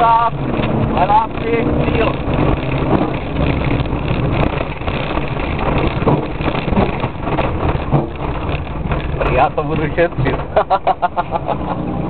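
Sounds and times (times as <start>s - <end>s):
car engine running: 0.0s - 12.0s
road and tyre noise: 0.0s - 12.0s.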